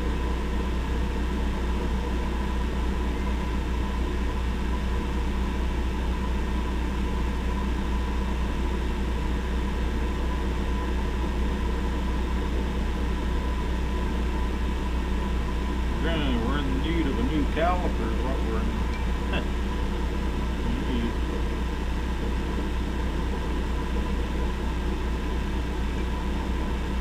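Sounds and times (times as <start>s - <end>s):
lathe running: 0.0s - 27.0s.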